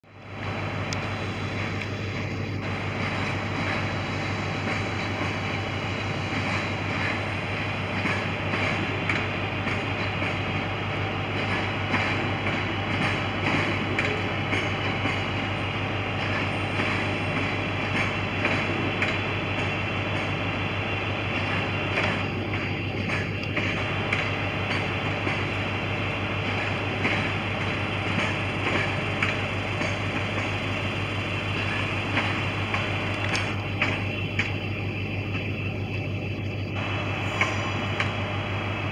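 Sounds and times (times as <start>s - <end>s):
electric train rumble and hum: 0.0s - 38.9s.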